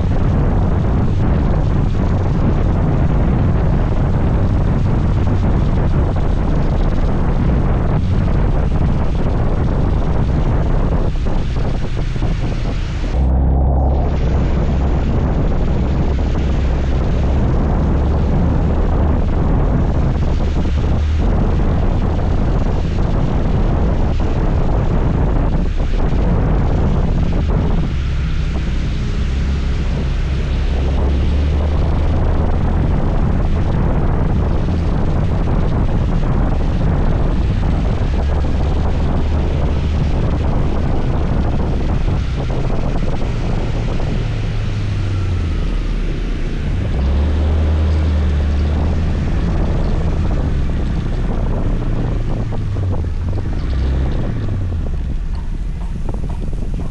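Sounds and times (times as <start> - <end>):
road noise: 0.0 - 56.9
wind buffeting microphone: 0.0 - 56.9.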